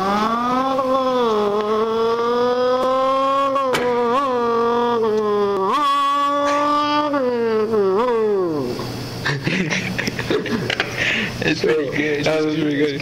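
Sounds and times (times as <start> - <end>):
man imitating car engine: 0.0 - 10.7.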